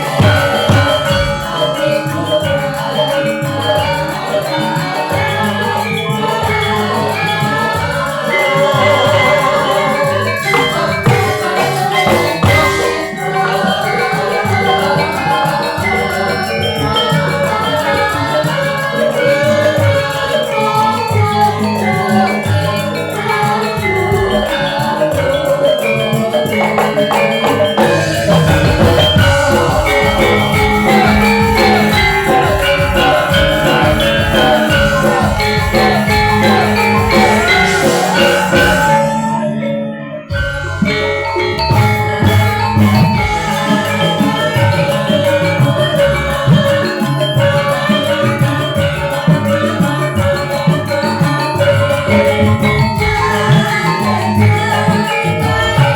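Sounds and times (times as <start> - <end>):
gamelan metallophones and gongs: 0.0 - 55.9
hand drum playing: 0.0 - 55.9.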